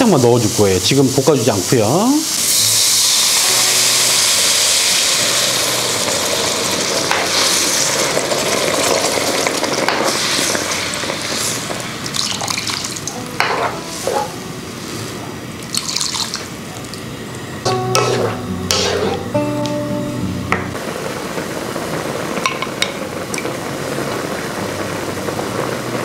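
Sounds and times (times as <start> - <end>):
stock sizzling in a hot wok: 0.0 - 16.6, 17.6 - 26.0.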